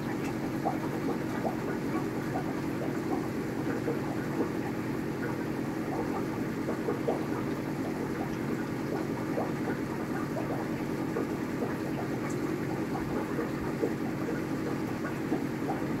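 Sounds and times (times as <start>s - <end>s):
aquarium pump humming: 0.0s - 16.0s
water bubbling: 0.0s - 16.0s.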